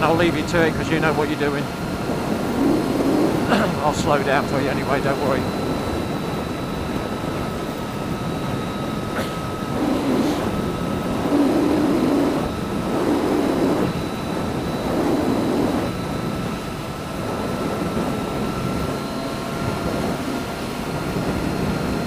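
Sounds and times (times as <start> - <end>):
thin steady whine: 0.0 - 22.0
wind noise: 0.0 - 22.0.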